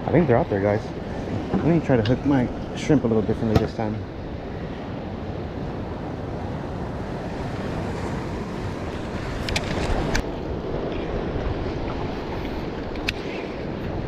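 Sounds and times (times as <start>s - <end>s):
surf washing against rocks: 0.0s - 14.0s
wind rushing over microphone: 0.0s - 14.0s.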